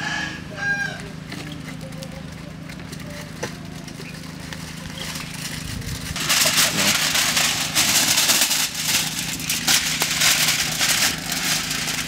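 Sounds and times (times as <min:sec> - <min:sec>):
aluminium foil crinkling: 0:01.4 - 0:12.0.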